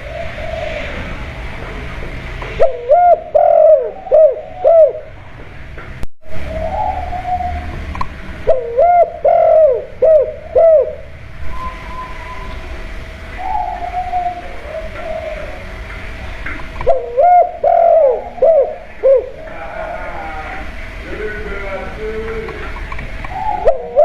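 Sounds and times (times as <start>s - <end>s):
dove cooing: 0.0s - 1.8s, 2.6s - 5.4s, 6.3s - 24.0s.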